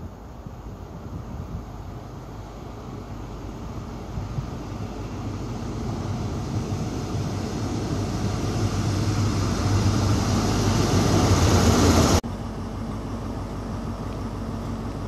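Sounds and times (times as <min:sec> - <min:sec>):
diesel train engine: 0:00.0 - 0:15.0
wheel and rail noise: 0:00.0 - 0:15.0.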